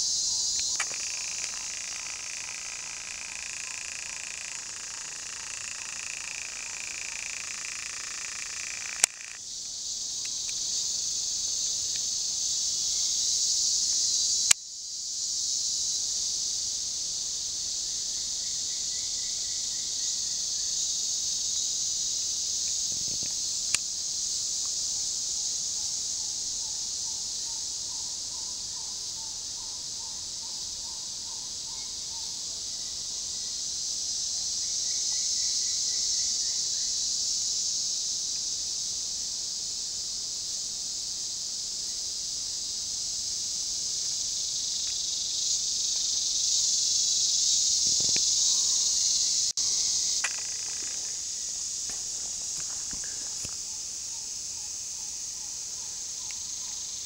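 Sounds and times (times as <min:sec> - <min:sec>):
insect chorus shrill drone: 0:00.0 - 0:57.0.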